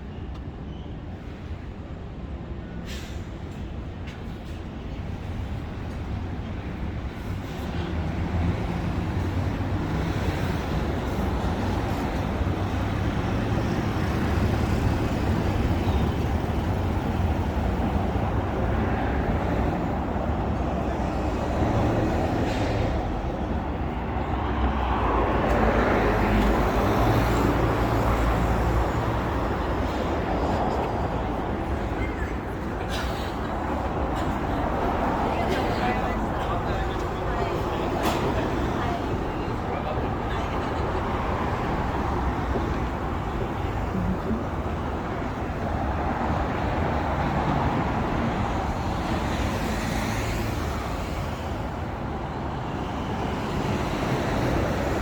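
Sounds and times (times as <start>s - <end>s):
vehicles driving past: 4.2s - 55.0s.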